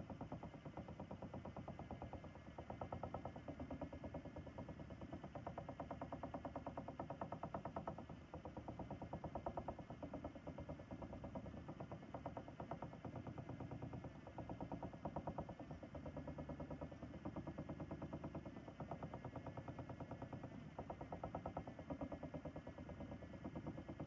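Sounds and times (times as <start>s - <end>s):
spinning wheel motor whirring: 0.0s - 24.0s.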